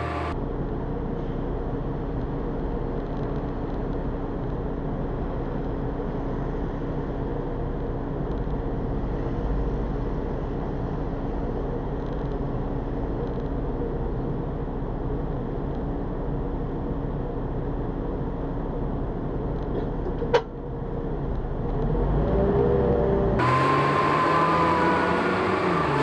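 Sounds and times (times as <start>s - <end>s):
bus engine and road noise: 0.0s - 26.0s.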